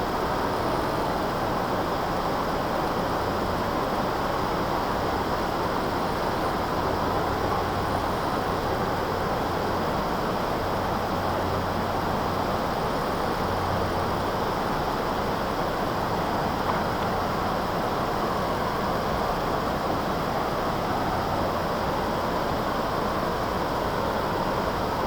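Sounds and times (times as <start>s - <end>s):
water roaring over a dam: 0.0s - 25.0s.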